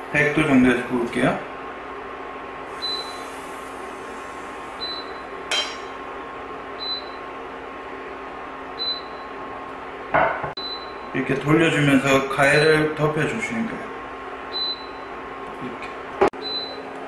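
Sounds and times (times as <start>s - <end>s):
induction hob humming: 0.0s - 17.0s.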